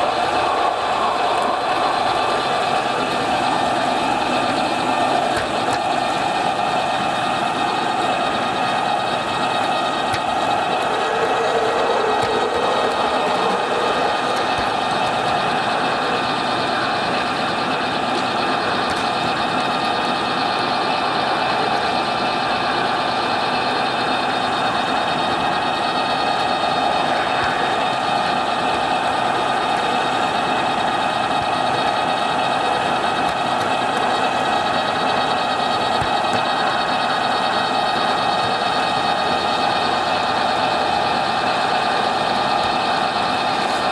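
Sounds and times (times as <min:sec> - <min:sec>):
model train motor whine: 0:00.0 - 0:43.9
wheels rattling on track: 0:00.0 - 0:43.9.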